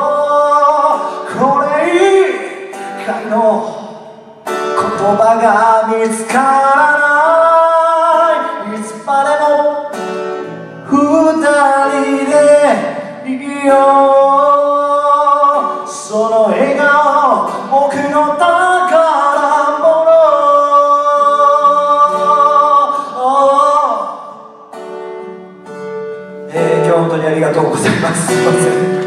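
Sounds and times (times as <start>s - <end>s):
man singing: 0.0s - 25.0s, 26.3s - 29.0s
acoustic guitar: 0.0s - 29.0s.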